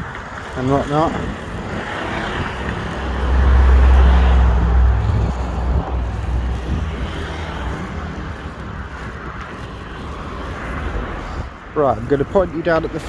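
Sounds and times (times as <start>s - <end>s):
steady traffic noise: 0.0s - 13.0s
vehicle engine rumble passing: 0.5s - 11.6s.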